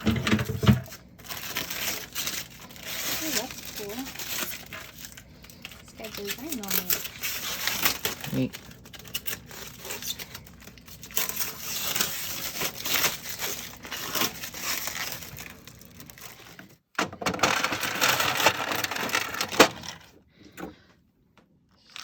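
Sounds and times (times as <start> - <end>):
packaging crinkling and crackling: 0.0 - 20.2.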